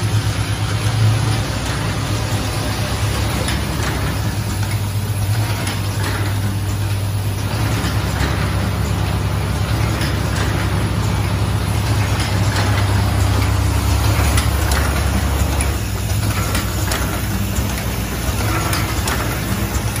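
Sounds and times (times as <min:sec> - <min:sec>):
machine clicking rapidly: 0:00.0 - 0:20.0
vibratory feeder humming: 0:00.0 - 0:20.0.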